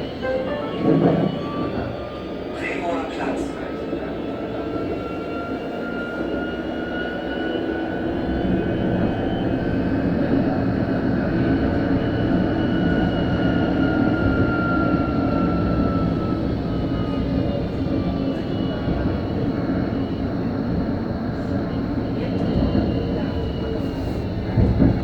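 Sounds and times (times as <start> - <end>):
tram electric drive whine: 0.0 - 25.0.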